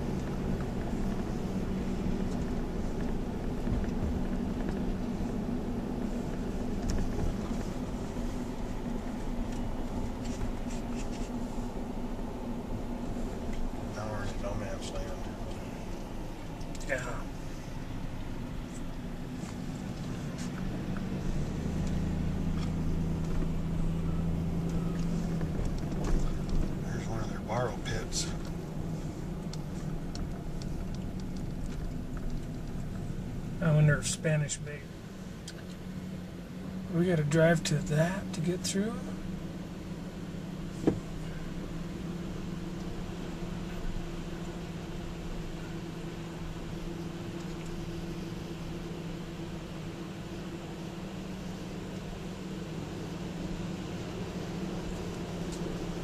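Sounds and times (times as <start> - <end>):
car engine humming: 0.0 - 56.0
road noise: 0.0 - 56.0.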